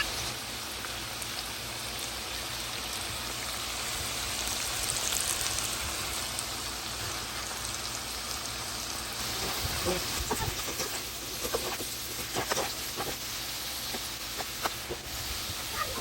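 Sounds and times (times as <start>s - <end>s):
fries sizzling in hot oil: 0.0s - 16.0s.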